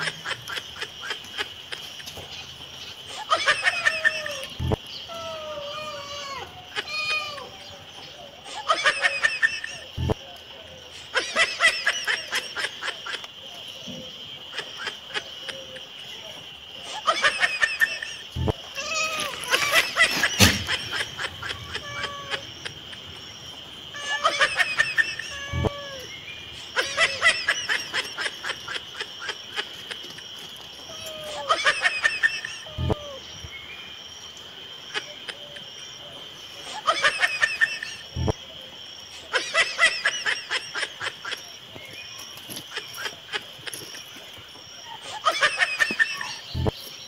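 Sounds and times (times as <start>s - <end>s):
high-pitched giggling: 0.0s - 2.3s, 3.0s - 7.7s, 8.4s - 10.3s, 10.9s - 13.7s, 14.5s - 33.2s, 34.9s - 38.4s, 39.1s - 44.2s, 44.8s - 46.8s
insect drone: 0.0s - 47.0s.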